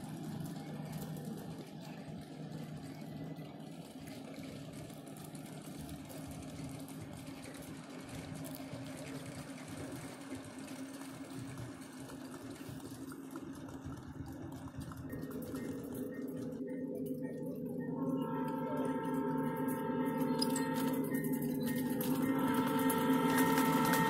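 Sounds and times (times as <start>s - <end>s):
model locomotive motor hum: 0.0s - 24.0s.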